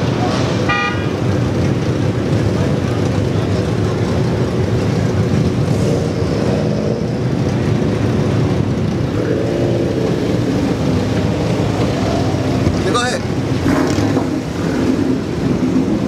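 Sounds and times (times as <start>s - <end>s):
car engines droning: 0.0s - 16.0s
road noise: 0.0s - 16.0s.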